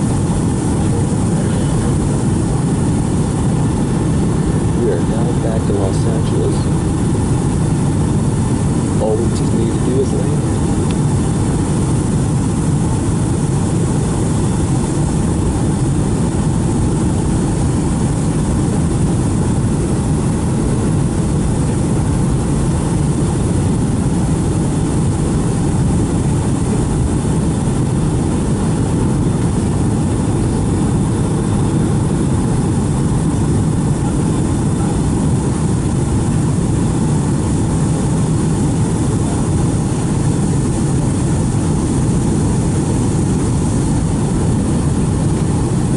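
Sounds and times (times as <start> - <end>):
jet cabin drone: 0.0 - 45.9.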